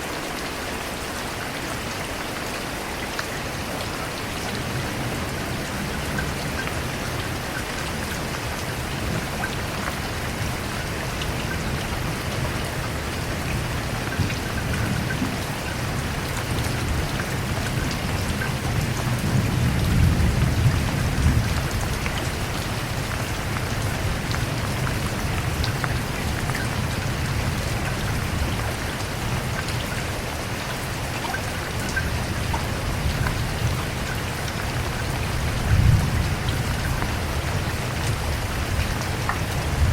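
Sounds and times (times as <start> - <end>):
heavy rain falling: 0.0 - 39.9
low rumble of thunder: 4.6 - 29.9, 31.9 - 39.9.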